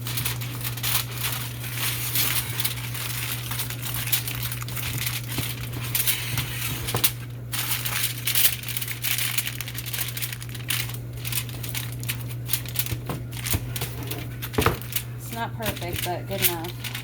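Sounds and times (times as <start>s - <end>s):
aluminium foil crinkling: 0.0s - 17.0s
steady low hum: 0.0s - 17.0s.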